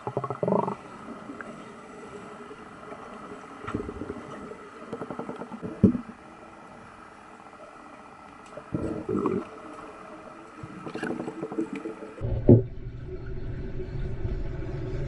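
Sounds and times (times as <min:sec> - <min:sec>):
muffled bubbling and water churning: 0:00.0 - 0:15.0
underwater hum: 0:00.0 - 0:15.0.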